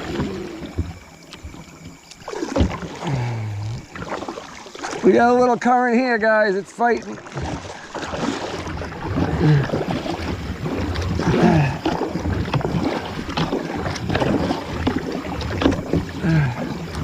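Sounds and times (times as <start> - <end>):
paddle splashes: 0.0 - 17.0
water rushing past hull: 0.0 - 17.0.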